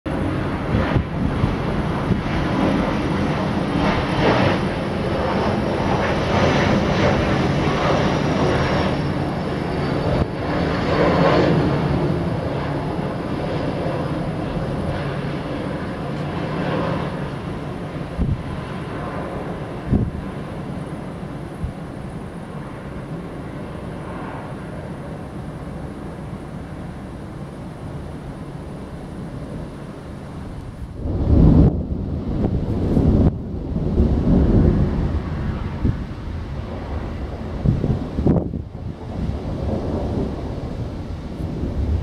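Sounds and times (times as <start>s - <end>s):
airliner engines rumbling: 0.1s - 42.0s
high engine whine: 0.1s - 42.0s.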